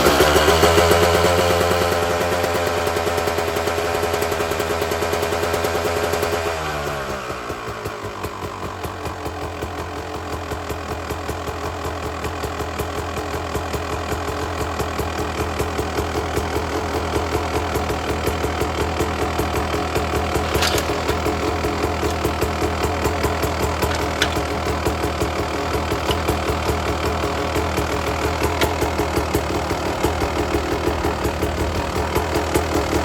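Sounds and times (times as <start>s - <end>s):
two-stroke engine idling: 0.0s - 33.0s.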